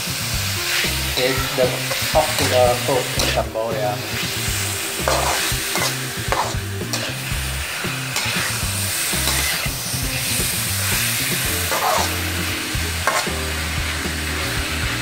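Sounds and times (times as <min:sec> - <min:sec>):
frying sizzle: 0:00.0 - 0:15.0
metal spatula scraping a wok: 0:00.4 - 0:15.0.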